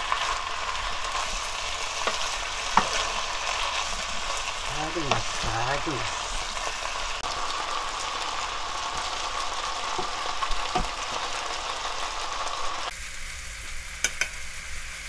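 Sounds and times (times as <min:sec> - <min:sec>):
fern sizzling in a frying pan: 0:00.0 - 0:15.0.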